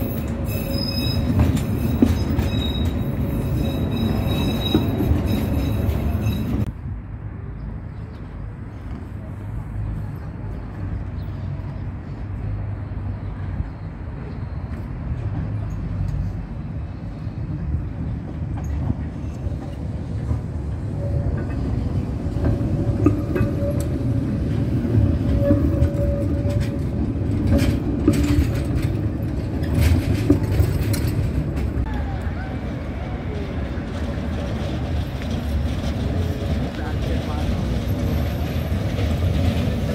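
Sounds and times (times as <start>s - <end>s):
tram wheels rumbling on track: 0.0s - 39.9s.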